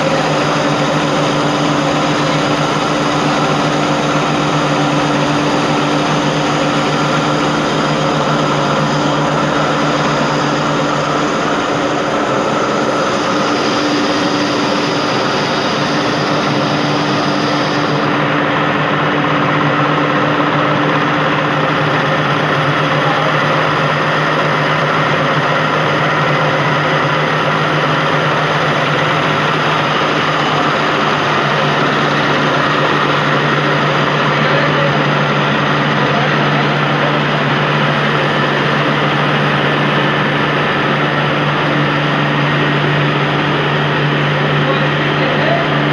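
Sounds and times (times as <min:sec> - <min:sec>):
mill machinery droning: 0:00.0 - 0:45.9.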